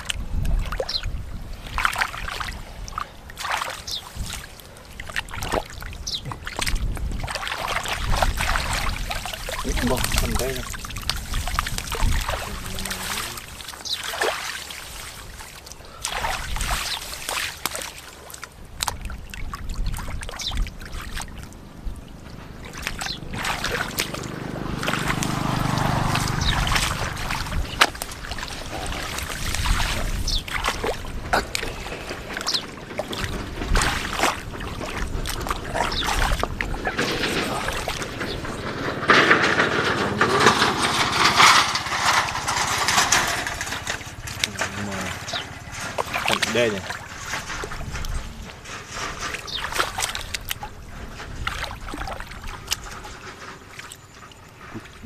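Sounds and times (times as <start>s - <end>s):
shallow water splashing: 0.0s - 55.0s.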